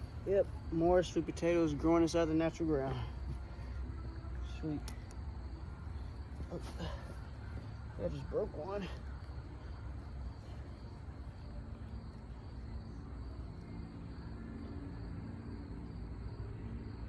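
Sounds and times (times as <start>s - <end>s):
insects droning high-pitched: 0.0s - 17.0s
low wind rumble: 0.0s - 17.0s.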